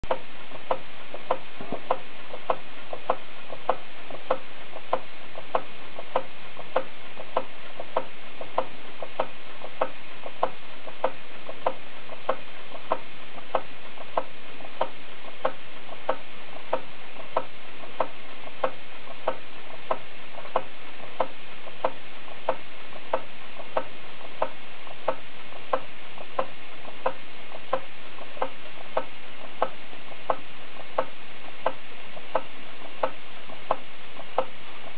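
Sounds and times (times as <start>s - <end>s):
model steam engine ticking: 0.1s - 34.9s
steady steam hiss: 0.1s - 34.9s.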